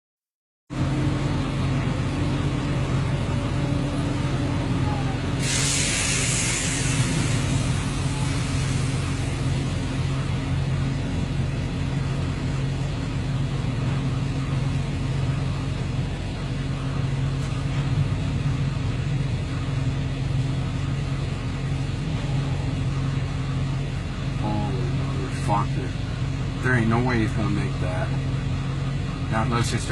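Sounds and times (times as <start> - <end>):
vehicle engine droning: 0.7 - 29.9.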